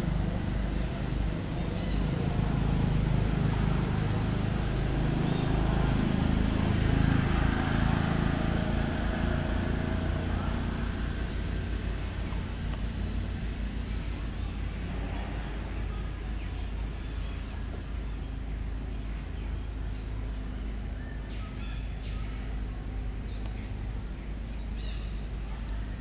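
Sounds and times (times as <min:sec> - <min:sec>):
low rumble with hiss: 0:00.0 - 0:26.0.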